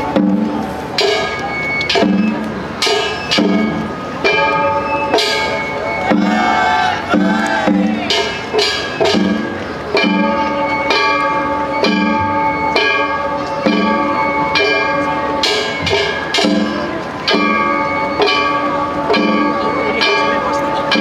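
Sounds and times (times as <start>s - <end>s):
metal hand gongs clanging: 0.0s - 21.0s
taiko drum beats: 0.0s - 21.0s.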